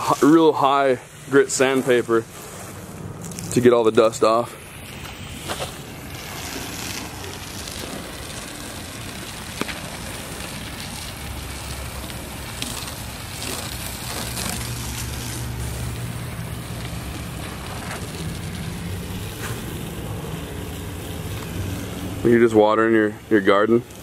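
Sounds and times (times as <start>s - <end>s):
hose spraying water: 0.0s - 24.0s
low engine-like hum: 0.8s - 24.0s.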